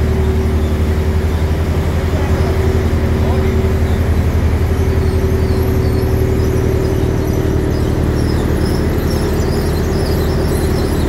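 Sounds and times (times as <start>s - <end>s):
agricultural machine drum humming: 0.0s - 11.0s.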